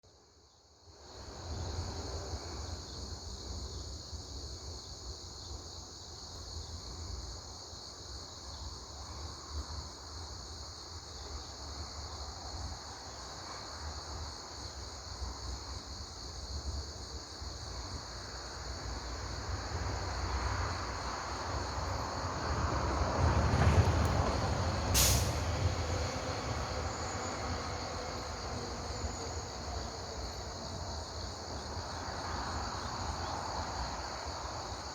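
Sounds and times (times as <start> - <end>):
high insect chorus: 0.1 - 34.9.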